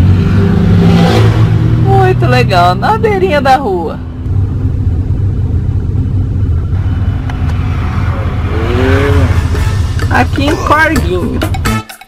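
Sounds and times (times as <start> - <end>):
engine low rumble: 0.0 - 11.7
road and wind noise: 0.0 - 11.7.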